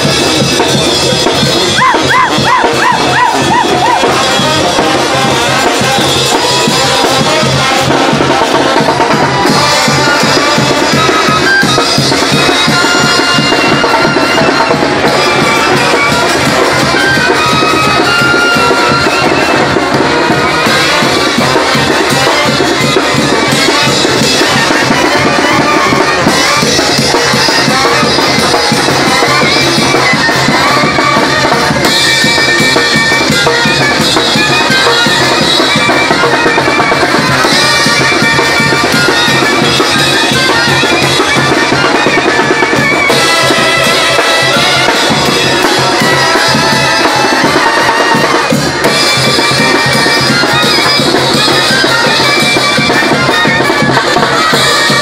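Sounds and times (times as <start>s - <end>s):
brass band playing: 0.0s - 55.0s
steady drums: 0.0s - 55.0s.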